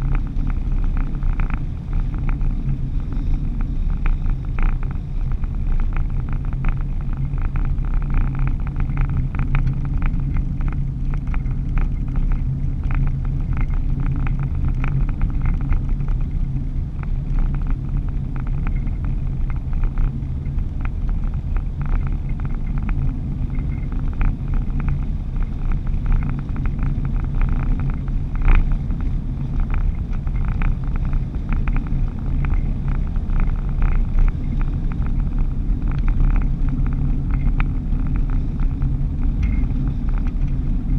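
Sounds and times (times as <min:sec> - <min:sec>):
engine and road hum: 0:00.0 - 0:40.9
small ticks and rattles: 0:00.0 - 0:40.9.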